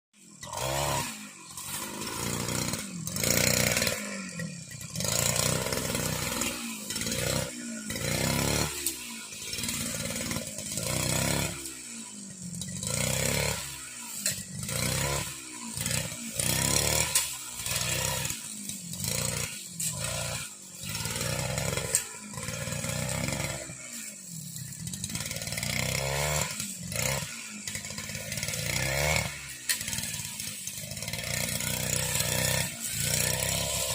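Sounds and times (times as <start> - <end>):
brush cutter engine revving: 0.2 - 33.9.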